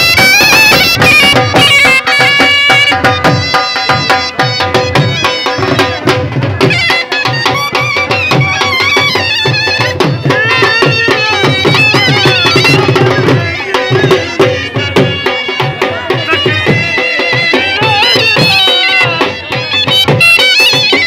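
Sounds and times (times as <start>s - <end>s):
dhol drum beating: 0.0s - 21.0s
shehnai folk melody: 0.0s - 21.0s.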